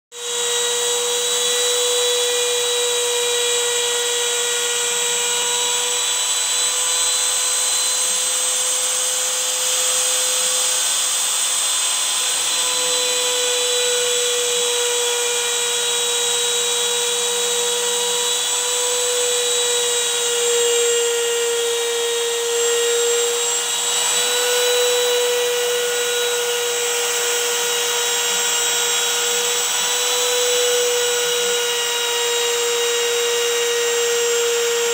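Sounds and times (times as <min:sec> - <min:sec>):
router bit cutting wood: 0:00.1 - 0:34.9
router spindle whining: 0:00.1 - 0:34.9.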